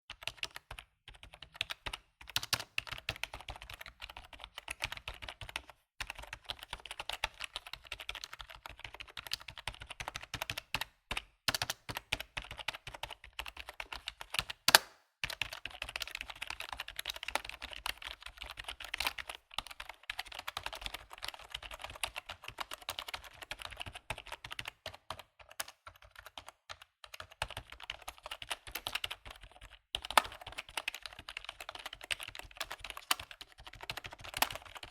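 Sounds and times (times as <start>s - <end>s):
typing on computer keyboard: 0.1s - 34.9s.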